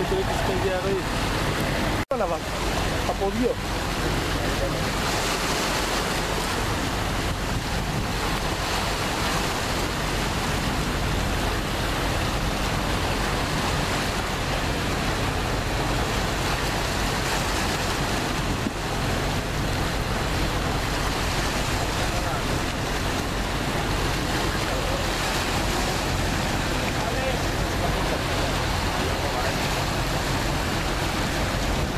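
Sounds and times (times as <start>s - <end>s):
rushing water: 0.0s - 31.9s
ship engines droning: 0.0s - 31.9s
wind: 0.0s - 31.9s.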